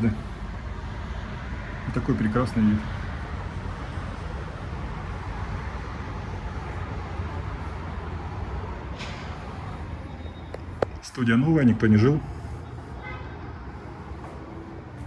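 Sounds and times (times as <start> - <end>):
distant city traffic: 0.0 - 15.0
wind: 0.0 - 15.0.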